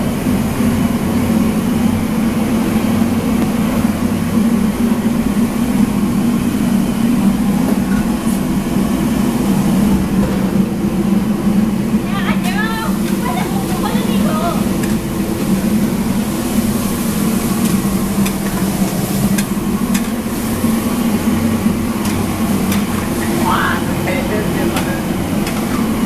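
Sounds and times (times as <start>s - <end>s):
kitchen machinery droning: 0.0s - 26.0s.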